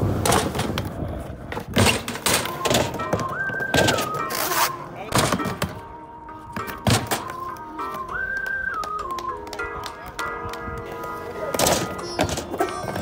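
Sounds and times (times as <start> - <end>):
background music: 2.1 - 13.0.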